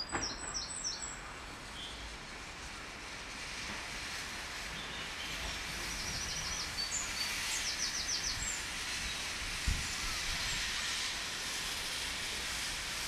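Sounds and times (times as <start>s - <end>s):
steam hissing: 0.2s - 13.0s.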